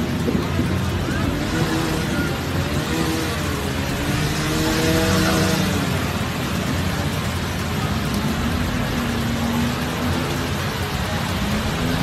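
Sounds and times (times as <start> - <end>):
hiss of rain and water: 0.0 - 12.0
vehicle engines running: 0.0 - 12.0.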